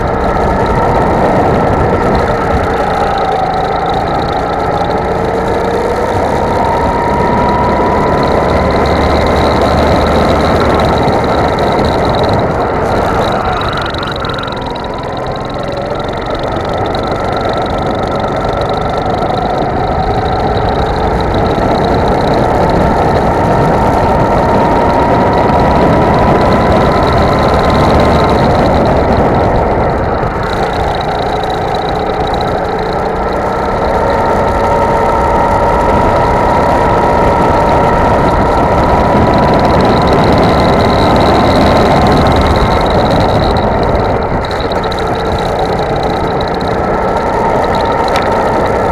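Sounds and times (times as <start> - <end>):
go-kart engine at full throttle: 0.0 - 48.9.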